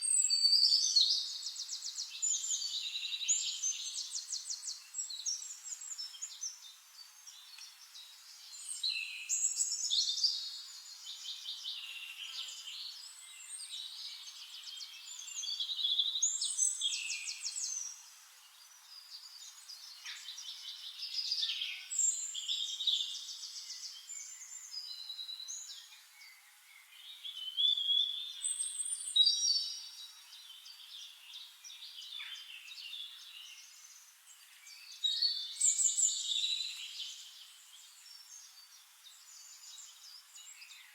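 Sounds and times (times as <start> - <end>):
songbirds singing and calling: 0.0 - 40.9.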